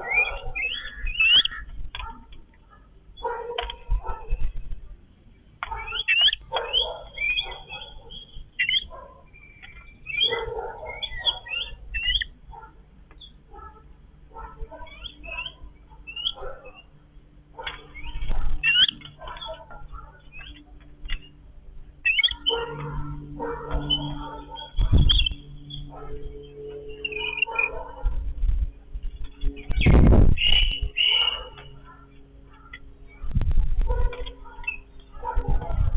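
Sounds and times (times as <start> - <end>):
birds calling short notes: 0.0 - 35.2.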